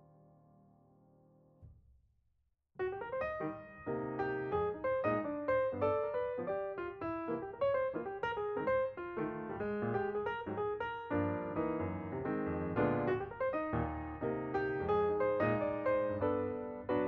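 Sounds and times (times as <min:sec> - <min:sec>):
background piano music: 0:00.0 - 0:01.6, 0:02.8 - 0:17.0.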